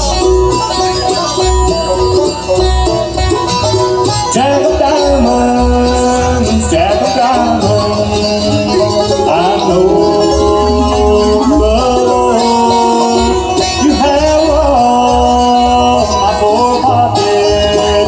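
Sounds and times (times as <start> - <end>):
bluegrass band playing: 0.0 - 18.0.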